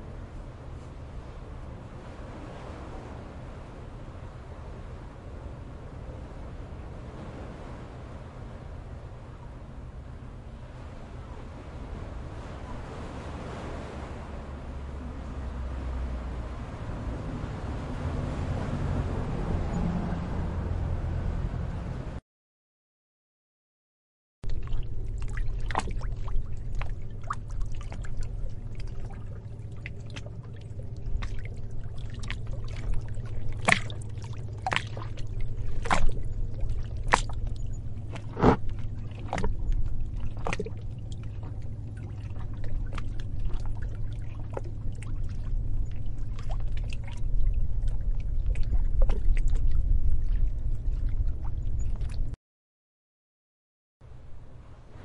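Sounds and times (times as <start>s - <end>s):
sea waves breaking: 0.0s - 22.2s, 24.5s - 52.4s, 54.2s - 55.0s.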